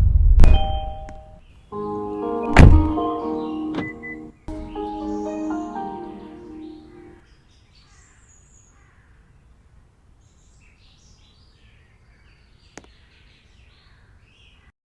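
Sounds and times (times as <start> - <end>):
faint birds chirping: 1.2 - 14.7.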